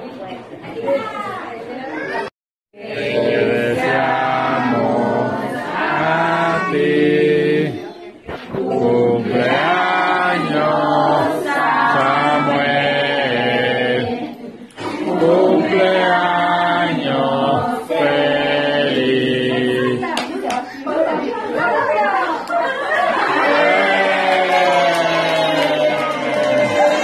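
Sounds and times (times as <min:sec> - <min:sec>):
group of people singing together: 0:02.8 - 0:27.0.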